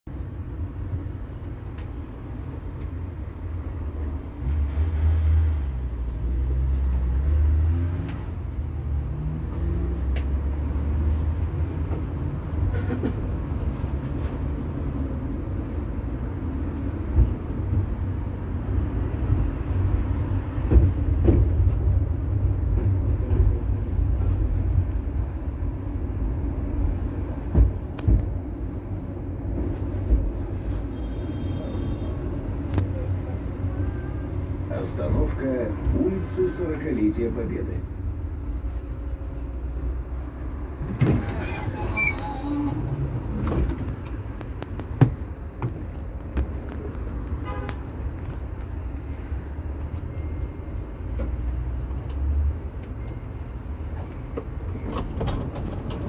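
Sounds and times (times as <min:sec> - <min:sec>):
wheels rumbling on rails: 0:00.1 - 0:56.0.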